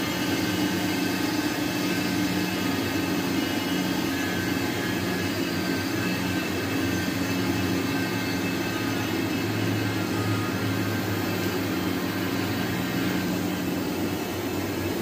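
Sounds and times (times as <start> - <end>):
machine hum with low drone: 0.0 - 15.0.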